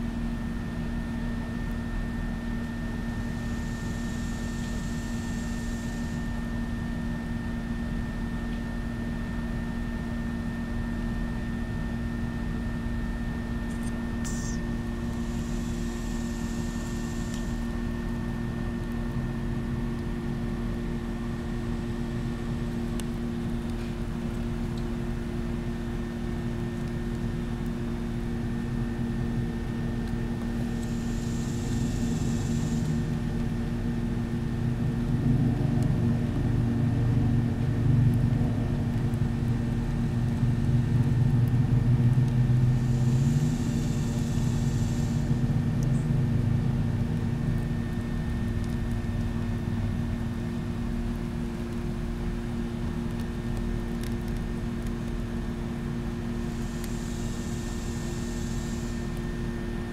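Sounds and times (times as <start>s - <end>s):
mechanical hum with tones: 0.0s - 59.9s.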